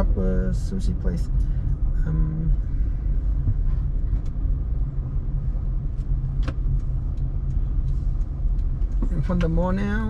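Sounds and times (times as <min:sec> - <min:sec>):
car interior rumble: 0:00.0 - 0:10.0.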